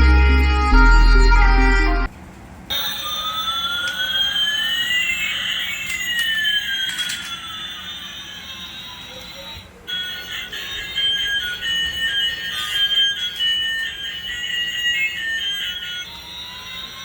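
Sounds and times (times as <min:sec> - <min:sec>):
electronic siren-like gliding tones: 0:00.0 - 0:02.1, 0:02.7 - 0:08.9, 0:09.8 - 0:16.0
music: 0:00.0 - 0:02.1, 0:02.8 - 0:17.0.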